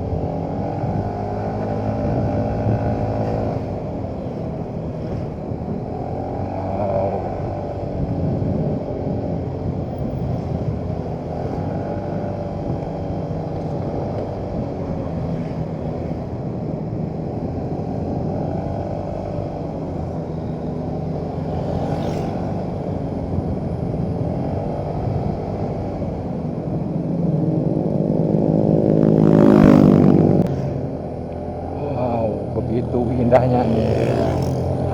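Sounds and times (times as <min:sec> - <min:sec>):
motorcycle engine running: 0:00.0 - 0:34.9
road and wind noise: 0:00.0 - 0:34.9.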